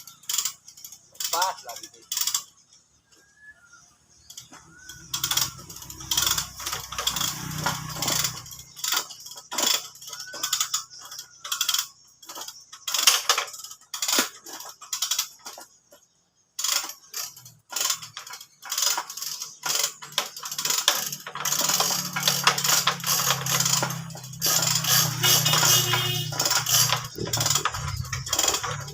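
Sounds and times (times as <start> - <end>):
metallic clinks and clatter: 4.2 - 16.0, 16.6 - 28.9.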